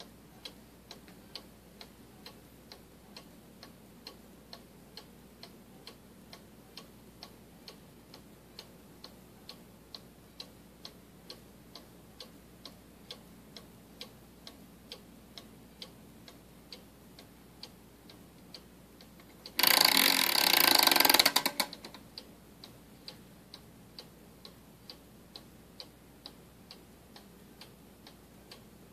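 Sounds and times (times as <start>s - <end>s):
cuckoo clock ticking: 0.0s - 28.9s.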